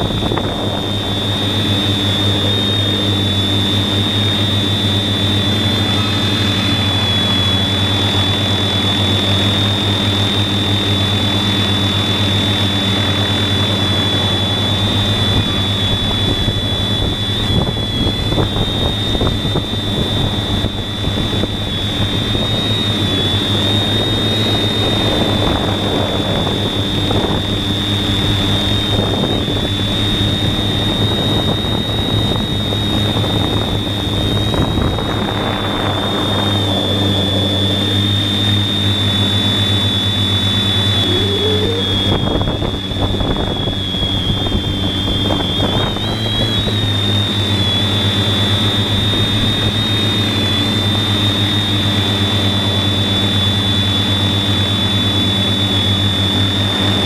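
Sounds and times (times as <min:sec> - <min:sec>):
drone motors whining: 0:00.0 - 0:57.0
propeller hum: 0:00.0 - 0:57.0.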